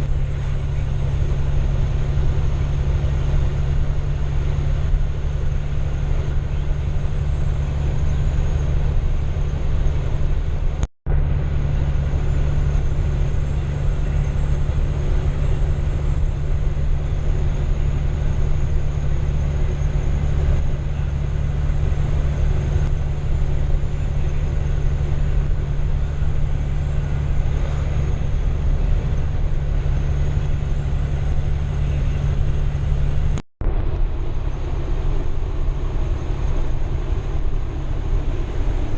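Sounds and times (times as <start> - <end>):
diesel engine droning under load: 0.0 - 38.9.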